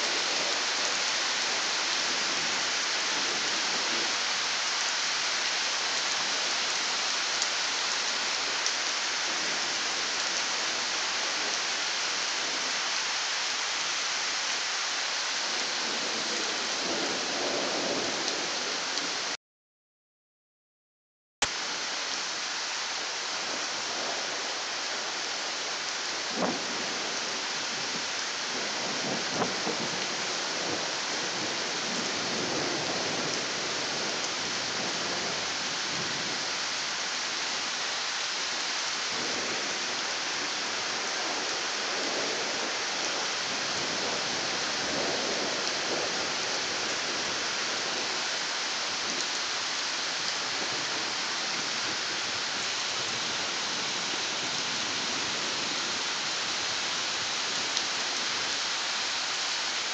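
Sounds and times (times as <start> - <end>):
heavy rain hissing: 0.0 - 19.4, 21.5 - 59.9.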